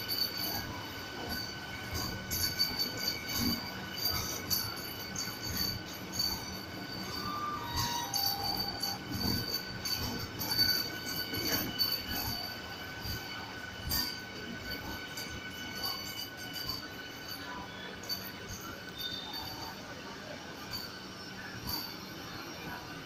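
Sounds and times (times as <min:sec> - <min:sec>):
train rumble and knocking: 0:00.0 - 0:23.0
wheel squeal on rail: 0:00.0 - 0:23.0.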